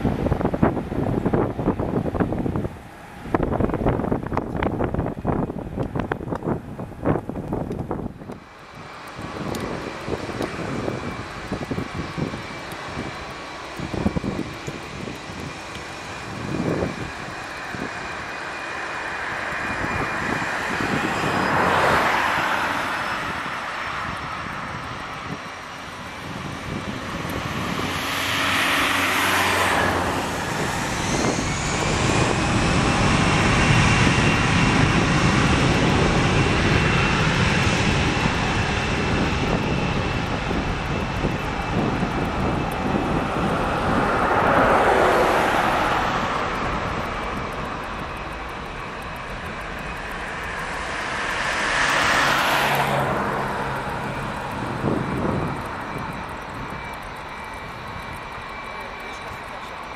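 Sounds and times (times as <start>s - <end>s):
jet engines spooling up: 0.0s - 59.9s
rising engine whine: 0.0s - 59.9s.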